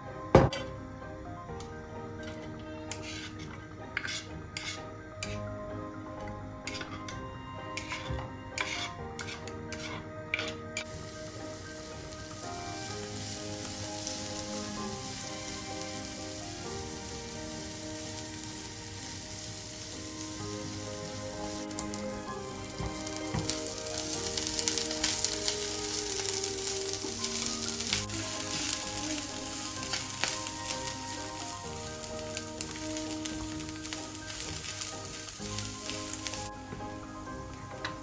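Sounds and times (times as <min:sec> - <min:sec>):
soft background music: 0:00.0 - 0:38.0
food sizzling in a pan: 0:02.2 - 0:05.5, 0:06.6 - 0:38.0.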